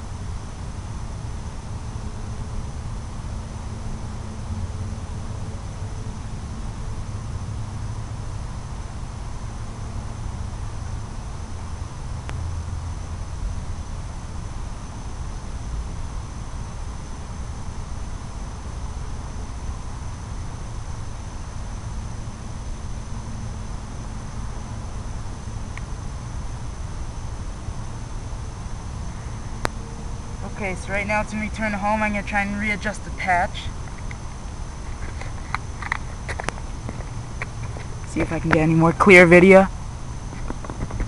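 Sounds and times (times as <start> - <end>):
insects trilling: 0.0 - 41.0
low rumble with hiss: 0.0 - 41.0.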